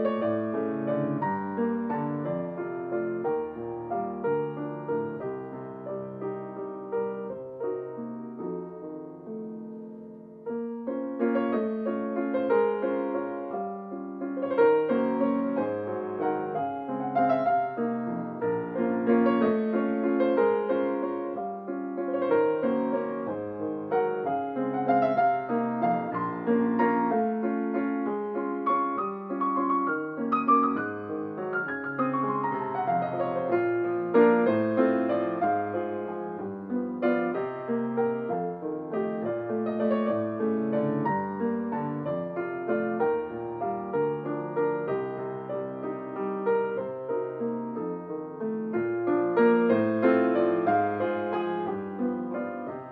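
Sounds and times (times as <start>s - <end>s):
solo piano waltz: 0.0s - 52.9s.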